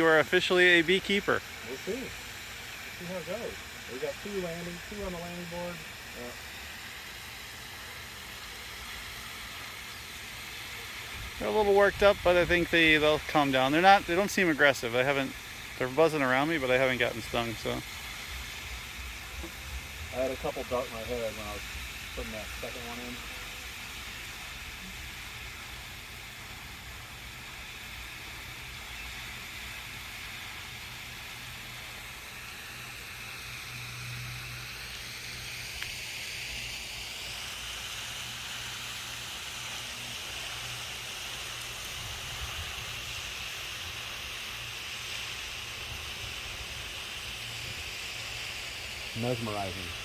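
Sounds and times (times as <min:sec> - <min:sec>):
honeybees buzzing: 0:00.0 - 0:50.0.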